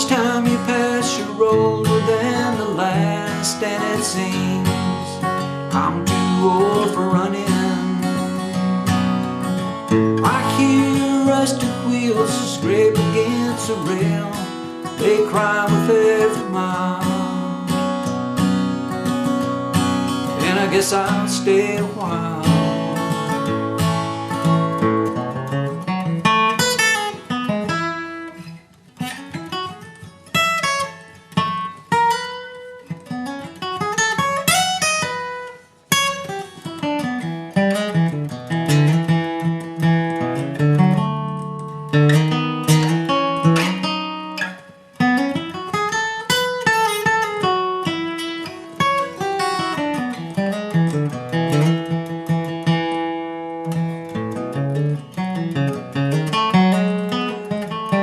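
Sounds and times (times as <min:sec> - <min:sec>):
acoustic guitar picking and strumming: 0:00.0 - 0:58.0.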